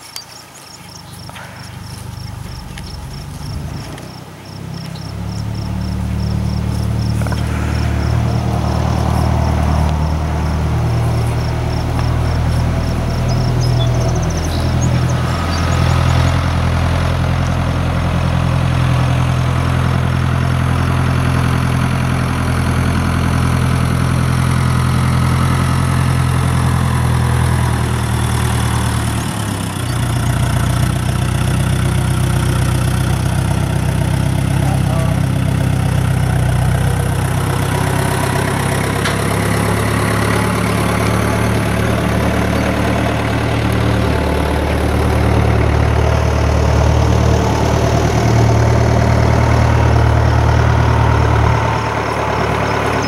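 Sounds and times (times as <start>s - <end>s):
tractor engine droning: 0.0s - 53.0s.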